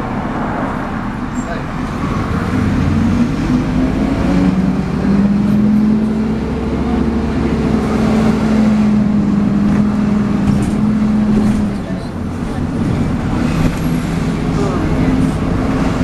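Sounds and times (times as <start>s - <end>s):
bus engine drone with whine: 0.0s - 16.0s.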